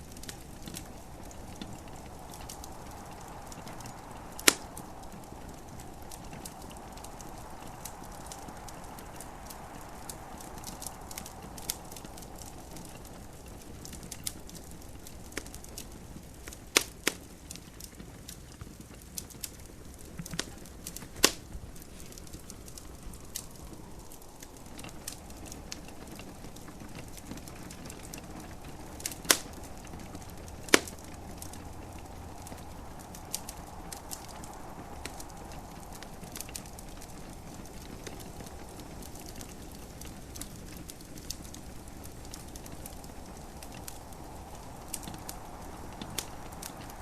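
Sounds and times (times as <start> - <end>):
wood fire crackling: 0.0 - 47.0
loud fire pops: 0.1 - 47.0.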